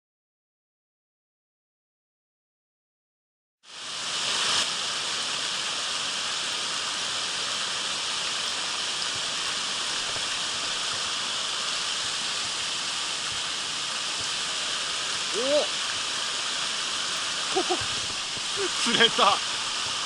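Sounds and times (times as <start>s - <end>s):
water rushing over rocks: 3.7s - 20.0s.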